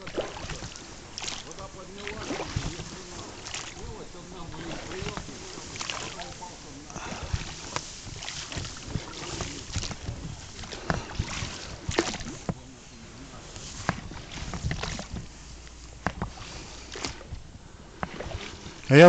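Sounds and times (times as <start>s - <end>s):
oar strokes in water: 0.0s - 19.0s
oars knocking and clicking: 0.0s - 19.0s.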